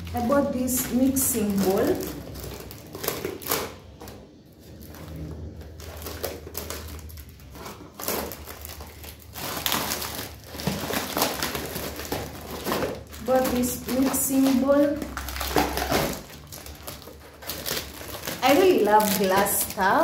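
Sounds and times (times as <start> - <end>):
packaging crinkling and scraping: 0.0 - 20.0
scissors cutting packaging: 0.0 - 20.0.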